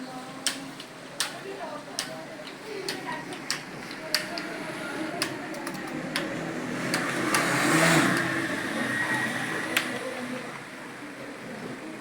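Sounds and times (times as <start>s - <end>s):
background noise: 0.0s - 12.0s.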